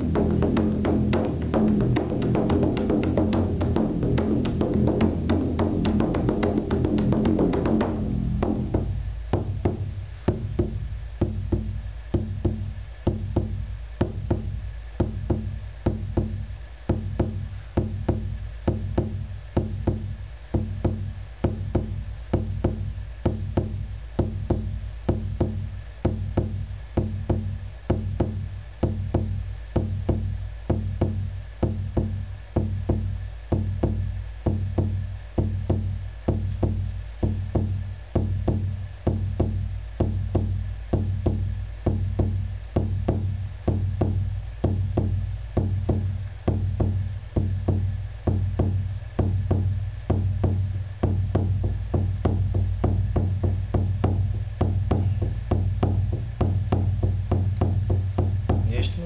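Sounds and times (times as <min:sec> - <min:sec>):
frame drum beating: 0:00.0 - 0:59.0.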